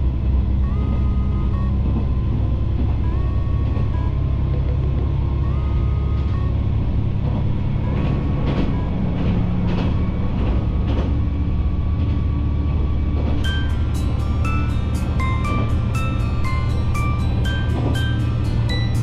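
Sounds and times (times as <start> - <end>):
diesel engine rumble: 0.0 - 19.0
wheels clicking over rail joints: 0.5 - 19.0.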